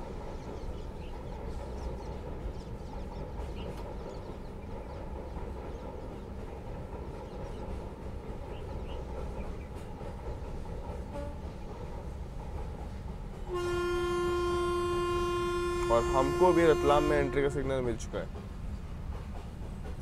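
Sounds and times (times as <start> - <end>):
low train rumble: 0.0 - 20.0.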